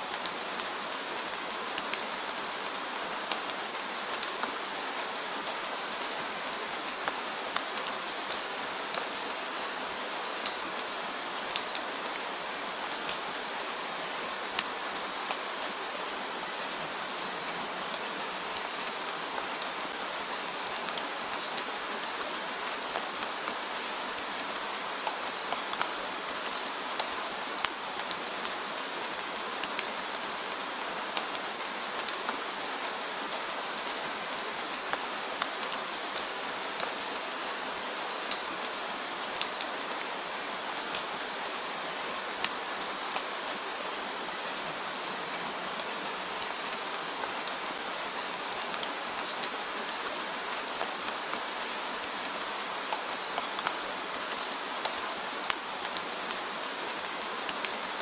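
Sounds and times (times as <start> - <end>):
steady rainfall hiss: 0.0 - 58.0.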